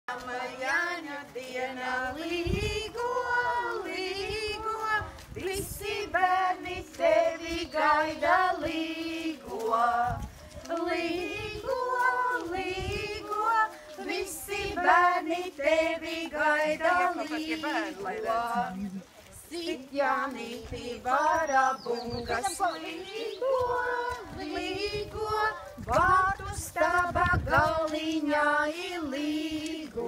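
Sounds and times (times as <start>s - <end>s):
women and children singing: 0.1s - 30.0s.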